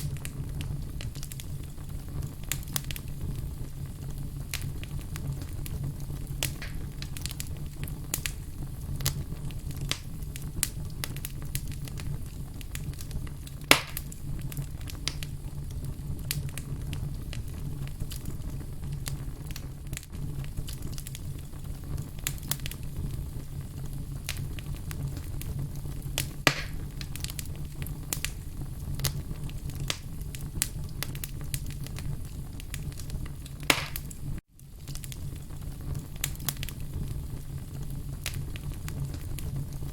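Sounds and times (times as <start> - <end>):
fire crackles and snaps: 0.0 - 39.9
loud pops from fire: 0.0 - 39.9
wood logs burning in fireplace: 0.0 - 39.9.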